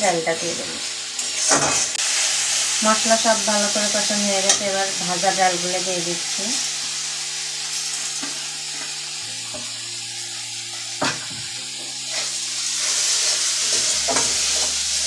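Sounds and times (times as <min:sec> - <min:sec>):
lentils sizzling in hot oil: 0:00.0 - 0:15.0.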